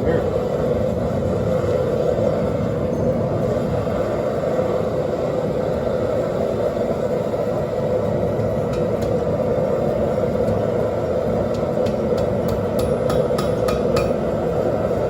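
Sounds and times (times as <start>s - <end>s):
gas forge burner rushing: 0.0s - 15.0s.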